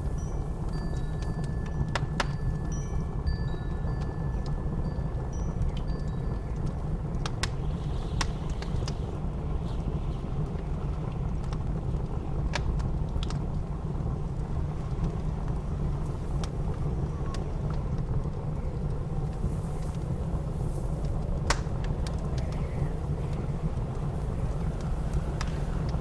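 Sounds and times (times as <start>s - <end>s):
blizzard wind rumbling: 0.0s - 26.0s
wood fire crackling: 0.0s - 26.0s.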